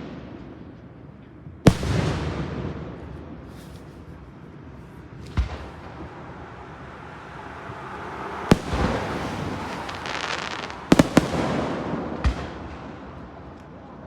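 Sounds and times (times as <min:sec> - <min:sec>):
fireworks bangs: 0:01.7 - 0:13.6
fireworks crackling: 0:01.7 - 0:13.8.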